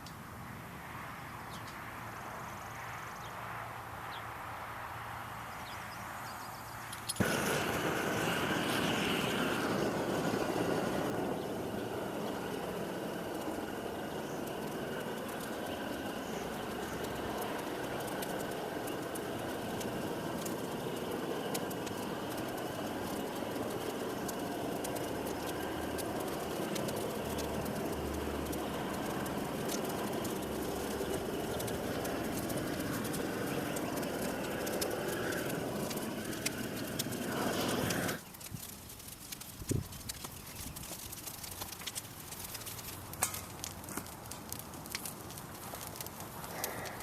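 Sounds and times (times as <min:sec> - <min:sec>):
fire crackling and popping: 0:06.8 - 0:47.0
rush of flames: 0:07.1 - 0:47.0.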